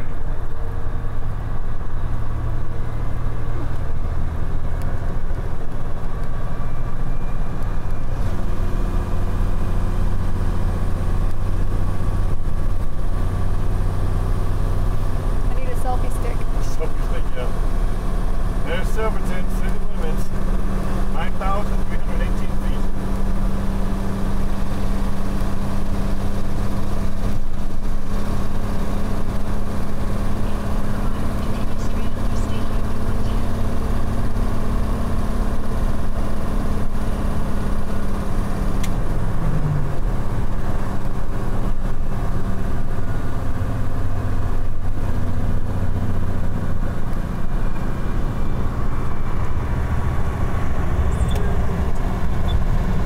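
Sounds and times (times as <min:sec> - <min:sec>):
truck engine droning: 0:00.0 - 0:53.0.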